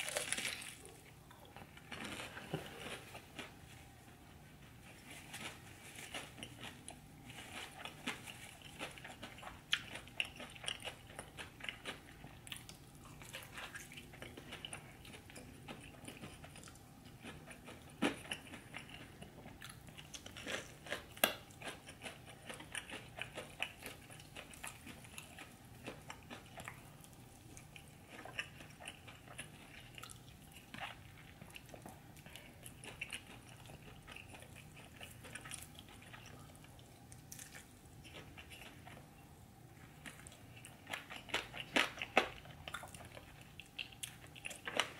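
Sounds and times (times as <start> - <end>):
chewing and crunching: 0.0 - 3.8, 4.7 - 44.9.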